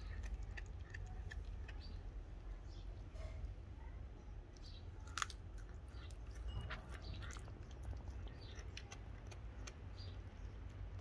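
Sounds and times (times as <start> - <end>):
cat chewing bone: 0.0 - 2.4, 4.5 - 11.0.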